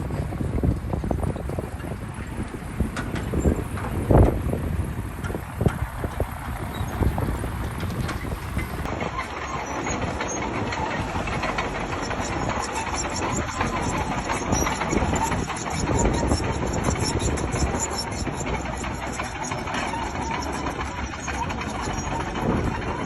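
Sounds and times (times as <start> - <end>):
heavy machinery engine: 0.0 - 23.0
machinery clanks and rattles: 0.0 - 23.0.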